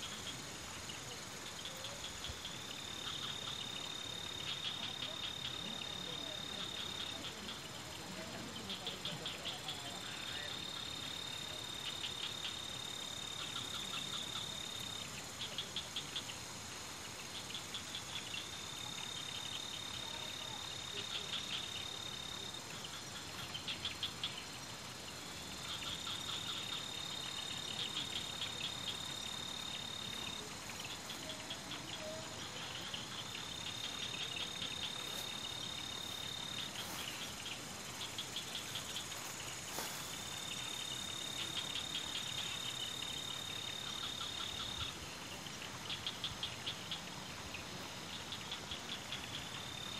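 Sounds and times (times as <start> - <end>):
insect trilling and pulsing: 0.0 - 49.9
steady hiss: 0.0 - 49.9.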